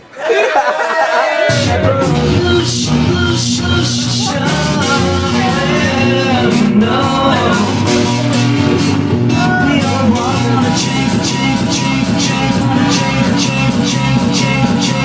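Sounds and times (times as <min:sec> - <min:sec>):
person singing: 0:01.3 - 0:15.0
loud rock music: 0:01.5 - 0:15.0.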